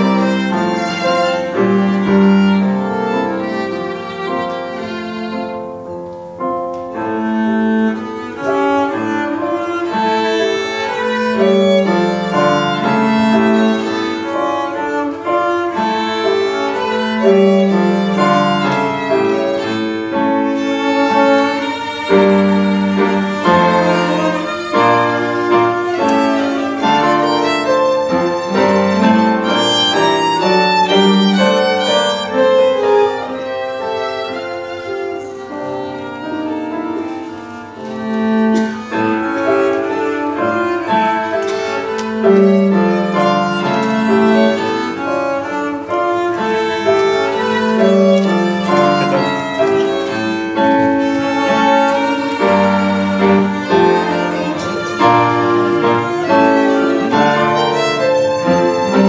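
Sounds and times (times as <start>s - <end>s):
piano accompaniment: 0.0s - 59.0s
violin and cello bowing: 0.0s - 59.0s.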